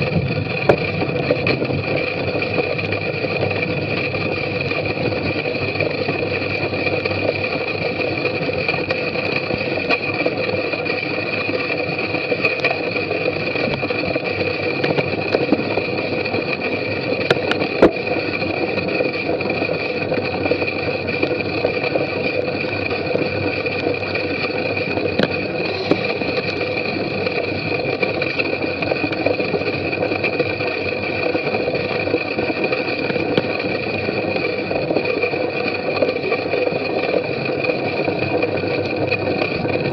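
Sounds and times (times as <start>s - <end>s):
bicycle rattling over bumpy grass: 0.0s - 39.9s
constant hum: 0.0s - 39.9s.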